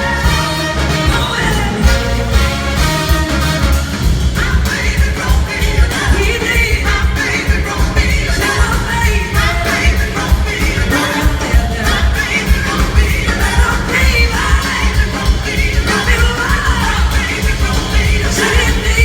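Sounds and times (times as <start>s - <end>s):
blues-rock band playing live: 0.0s - 19.0s.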